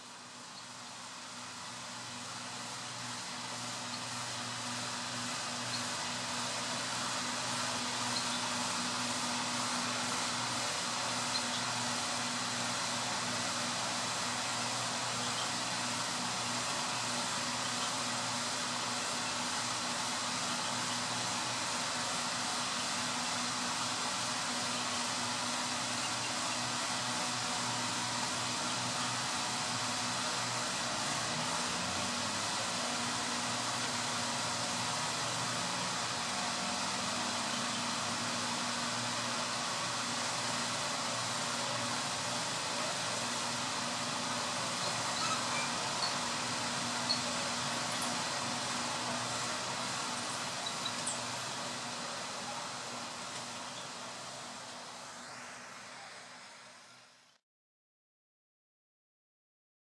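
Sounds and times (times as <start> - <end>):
model train rolling on track: 0.0 - 57.1.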